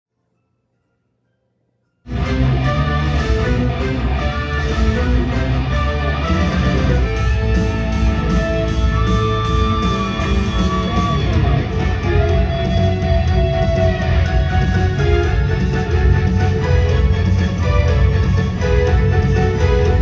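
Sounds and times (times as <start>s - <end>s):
loud rock music with electric guitar: 2.1s - 20.0s.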